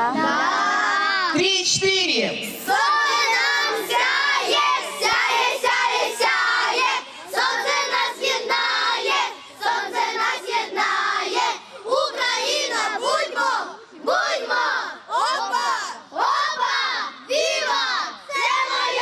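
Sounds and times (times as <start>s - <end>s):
children singing: 2.7s - 19.0s.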